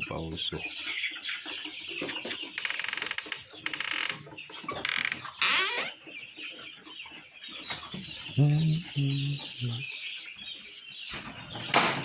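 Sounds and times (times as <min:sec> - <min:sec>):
chicks peeping and chirping: 0:00.0 - 0:12.0.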